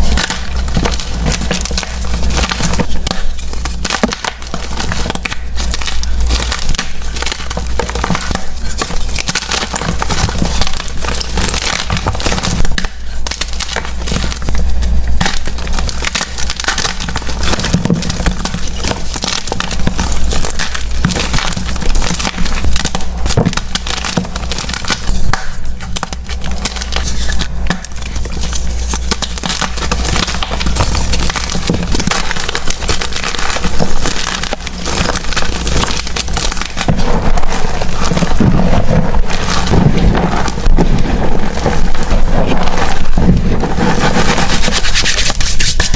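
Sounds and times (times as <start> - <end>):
chalk being crushed and crumbled: 0.0 - 45.9.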